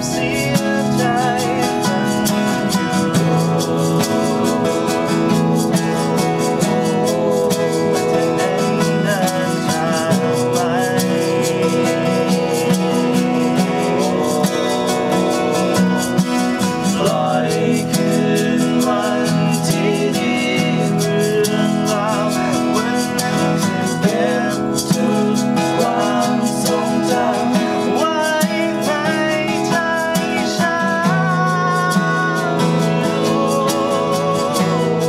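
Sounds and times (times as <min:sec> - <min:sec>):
acoustic guitars strumming: 0:00.0 - 0:35.0
men singing a pop ballad: 0:00.0 - 0:35.0.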